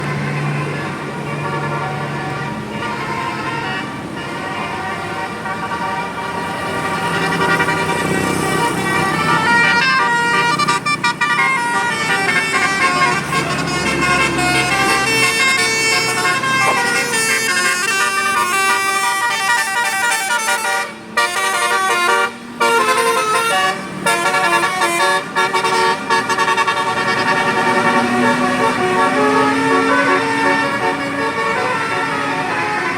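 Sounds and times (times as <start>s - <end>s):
musical bus horn melody: 0.0s - 32.9s.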